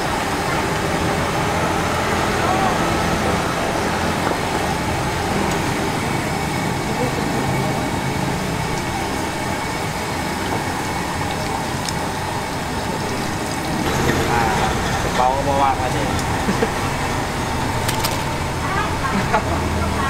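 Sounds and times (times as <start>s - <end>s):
dough deep-frying in oil: 0.0s - 20.0s
people's voices: 0.0s - 20.0s.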